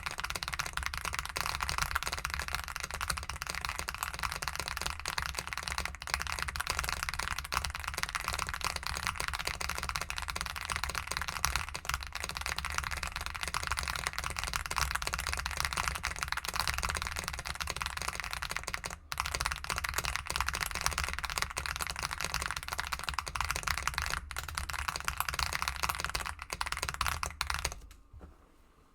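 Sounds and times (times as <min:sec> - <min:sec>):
fast typing on mechanical keyboard: 0:00.0 - 0:27.9.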